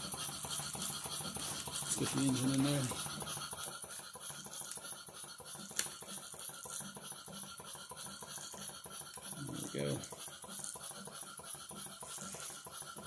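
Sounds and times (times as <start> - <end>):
steam engine clatter: 0.0 - 13.0.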